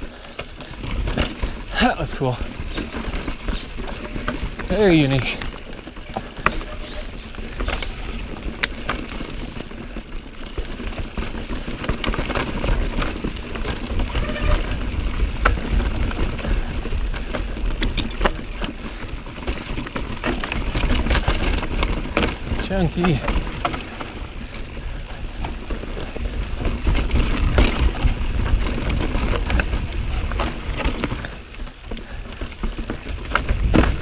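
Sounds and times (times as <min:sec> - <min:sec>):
bike clicks and rattles: 0:00.0 - 0:34.0
bike tyres rumbling on rock: 0:00.0 - 0:34.0.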